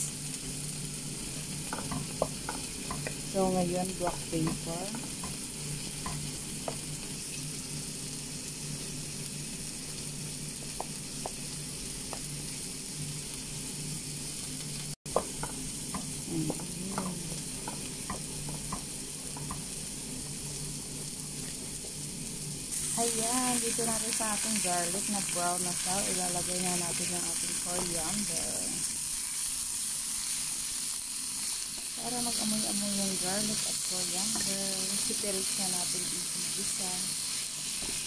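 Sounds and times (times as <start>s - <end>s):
food sizzling in a pot: 0.0s - 38.0s.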